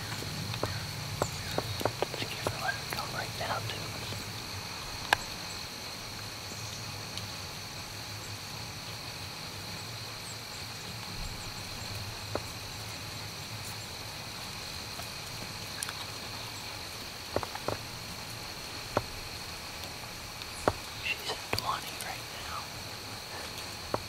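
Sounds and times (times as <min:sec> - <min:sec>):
high-pitched insect trilling: 0:00.0 - 0:05.7, 0:10.2 - 0:24.0.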